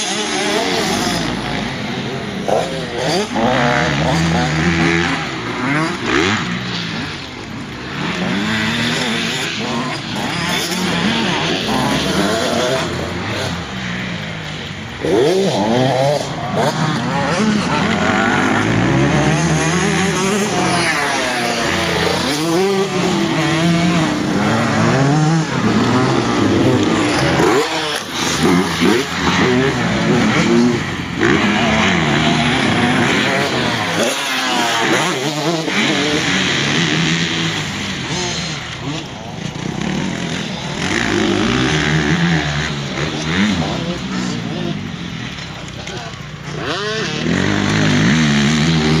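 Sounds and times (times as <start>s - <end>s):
motocross bike engines revving: 0.0s - 49.0s.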